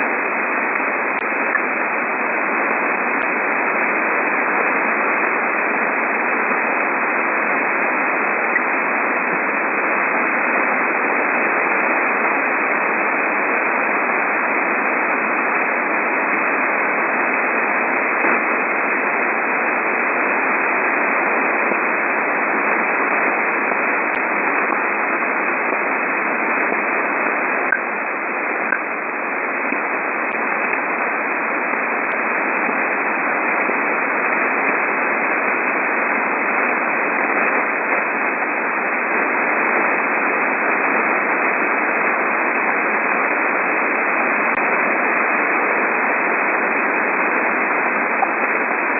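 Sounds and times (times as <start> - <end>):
radio static hiss: 0.0 - 48.9.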